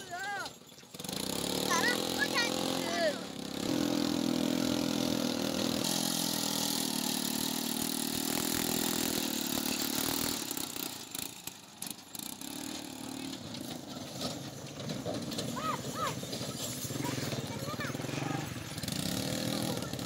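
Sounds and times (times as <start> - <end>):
small tractor engine running: 0.0 - 20.0.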